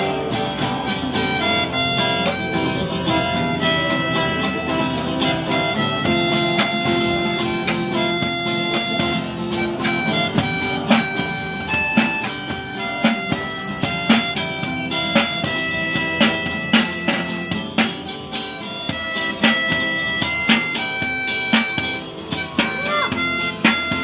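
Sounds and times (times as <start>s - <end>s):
guitar playing: 0.0s - 24.0s
drum hits: 1.0s - 24.0s.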